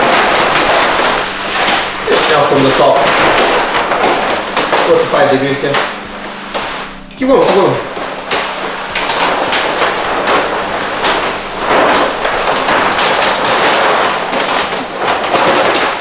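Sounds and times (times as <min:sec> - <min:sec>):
plastic film crackling: 0:00.0 - 0:16.0
pump sprayer hissing: 0:00.0 - 0:16.0.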